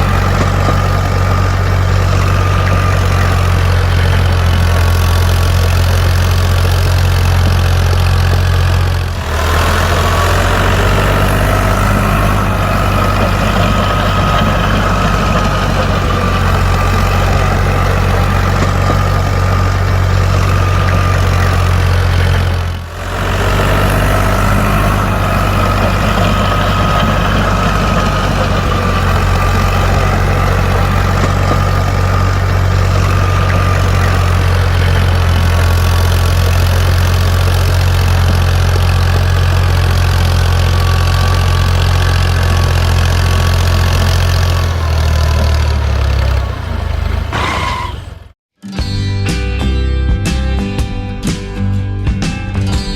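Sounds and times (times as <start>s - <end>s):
tractor engine hum: 0.0s - 48.4s.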